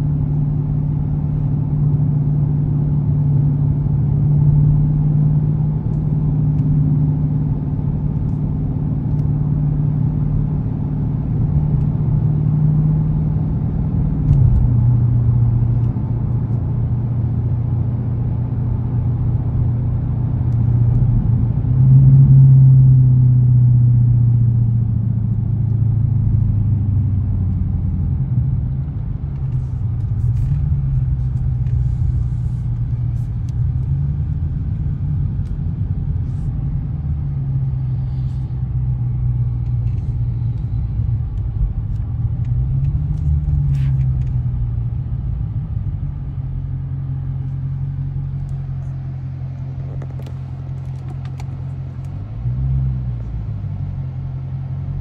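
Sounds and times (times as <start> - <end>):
car engine drone from inside: 0.0 - 55.0
road noise: 0.0 - 55.0.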